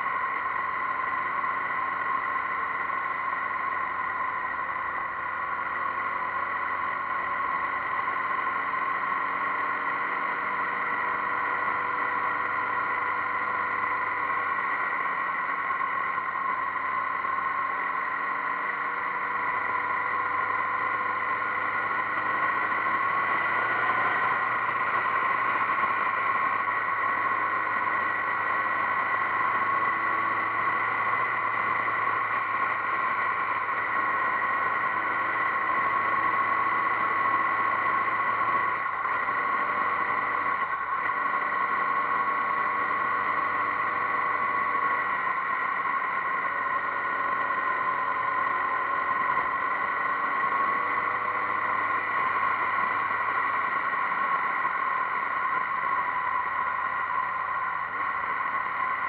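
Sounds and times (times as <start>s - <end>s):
motorcycle engine running: 0.0s - 59.0s
wind and road rush: 0.0s - 59.0s.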